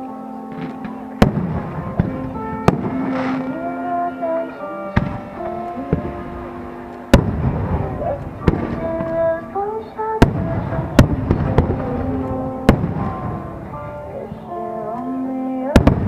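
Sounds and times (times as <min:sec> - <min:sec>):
fireworks crackling: 0:00.0 - 0:16.0
song playing: 0:00.0 - 0:16.0
fireworks booming: 0:00.5 - 0:14.4, 0:15.8 - 0:16.0.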